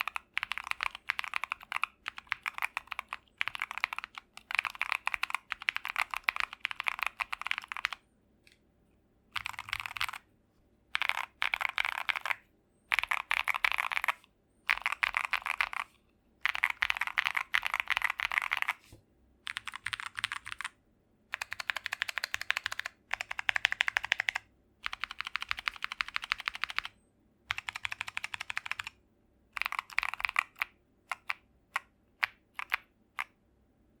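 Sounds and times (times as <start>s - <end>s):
mechanical keyboard typing: 0.0s - 8.0s, 9.4s - 10.2s, 10.9s - 18.8s, 19.5s - 26.9s, 27.5s - 29.0s, 29.6s - 33.4s.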